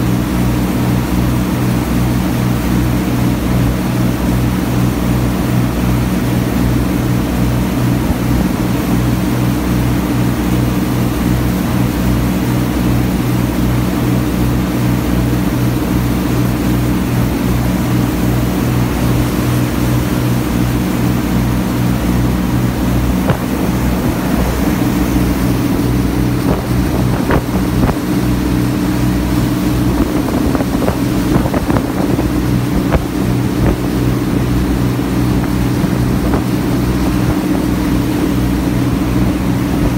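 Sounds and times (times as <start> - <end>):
ferry engine running: 0.0 - 39.9
water rushing in wake: 0.0 - 39.9.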